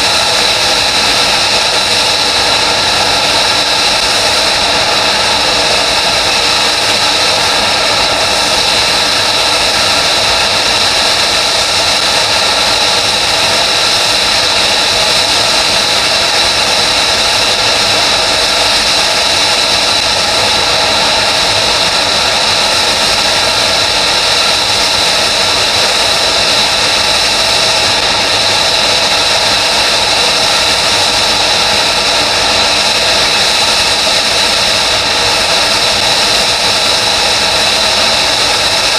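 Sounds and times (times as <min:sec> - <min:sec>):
high-pitched jet whine: 0:00.0 - 0:38.9
jet engine running: 0:00.0 - 0:38.9.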